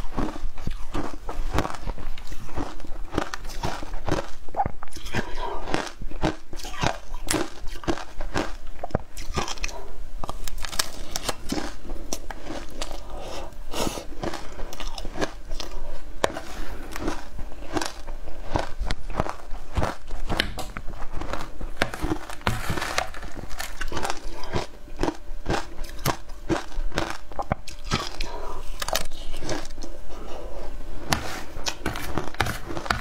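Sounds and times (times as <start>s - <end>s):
shaved ice crunching while chewed: 0.0s - 30.0s, 31.0s - 33.0s.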